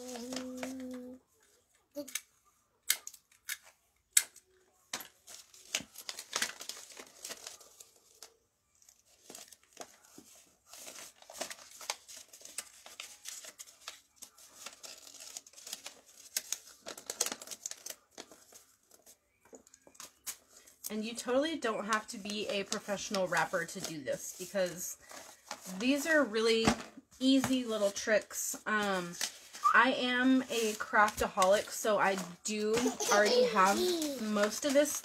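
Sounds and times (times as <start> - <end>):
wrapping paper crinkling: 0.0 - 1.5, 4.8 - 26.3, 27.2 - 35.0.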